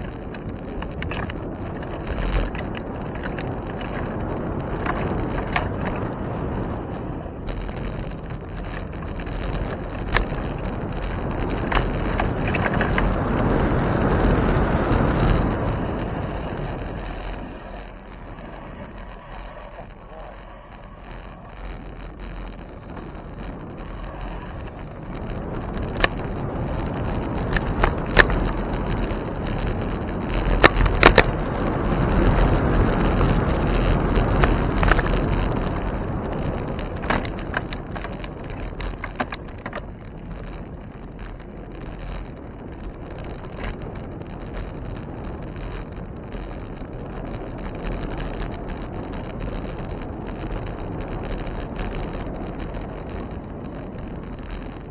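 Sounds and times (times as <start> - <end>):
bicycle clicks and knocks: 0.0 - 54.9
road and wind rush: 0.0 - 54.9.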